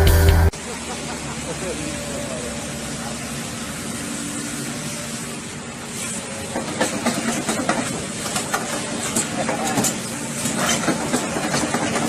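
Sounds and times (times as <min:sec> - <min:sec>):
heavy machine running: 0:00.0 - 0:12.0.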